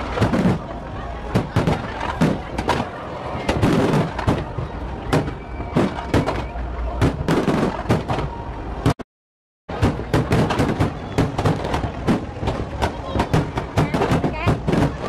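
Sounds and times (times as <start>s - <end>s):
fireworks bangs: 0.0s - 9.0s, 9.7s - 15.0s
fireworks crackle and rumble: 0.0s - 9.0s, 9.7s - 15.0s.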